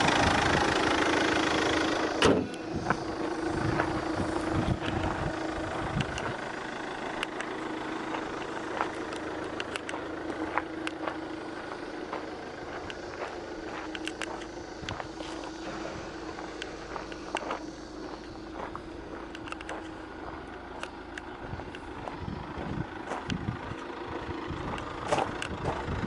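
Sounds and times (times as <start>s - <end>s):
car engine idling: 0.0s - 26.0s
engine stopping clunk: 0.0s - 26.0s
steady hum: 0.0s - 26.0s.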